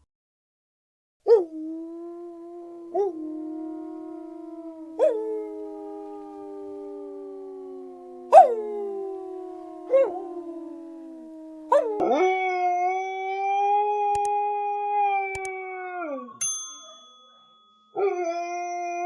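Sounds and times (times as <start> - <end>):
dog howling: 1.3 - 16.4, 18.0 - 19.0.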